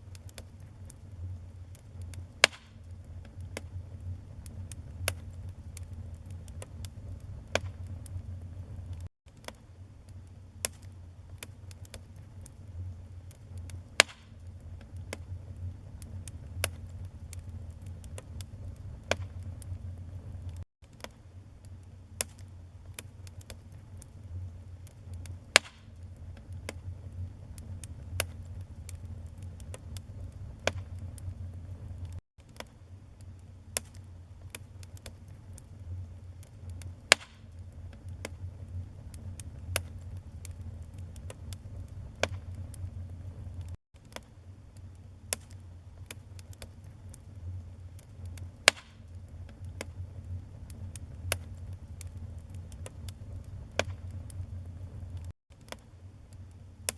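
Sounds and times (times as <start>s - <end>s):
low fire rumble: 0.0s - 55.4s
burning logs crackling and popping: 0.0s - 56.9s.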